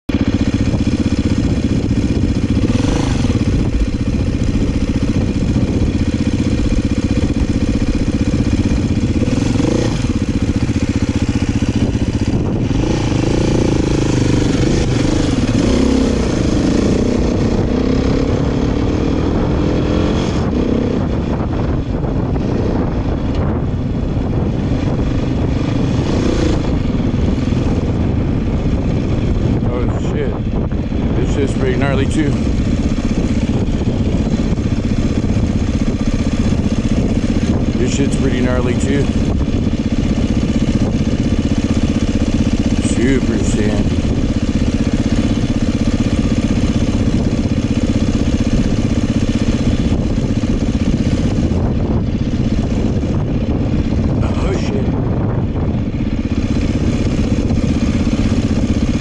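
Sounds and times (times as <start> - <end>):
dirt bike engine revving: 0.1 - 59.0.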